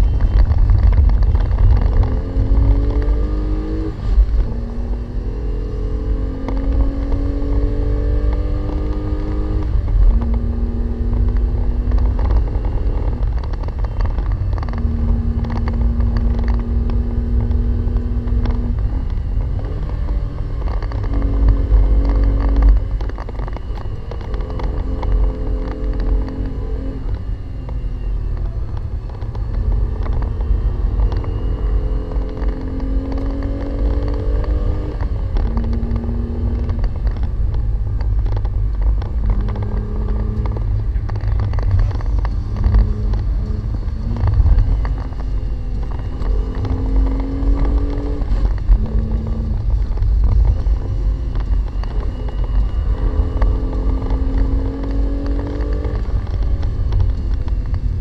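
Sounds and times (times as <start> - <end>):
car engine revving: 0.0 - 58.0
road and tyre noise: 0.0 - 58.0.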